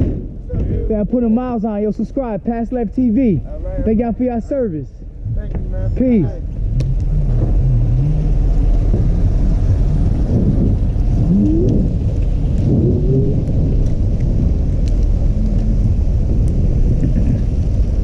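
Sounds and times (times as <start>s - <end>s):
wind buffeting microphone: 0.0s - 4.2s, 5.0s - 18.0s.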